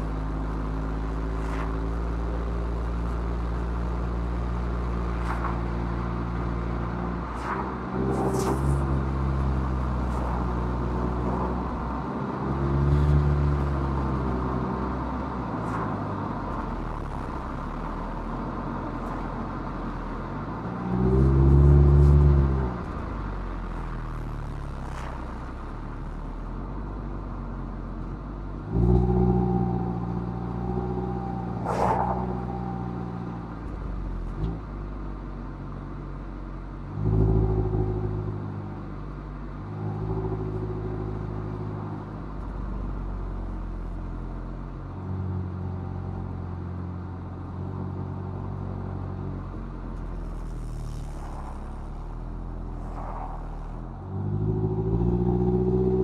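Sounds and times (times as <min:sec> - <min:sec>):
car engine driving uphill: 0:00.0 - 0:56.0.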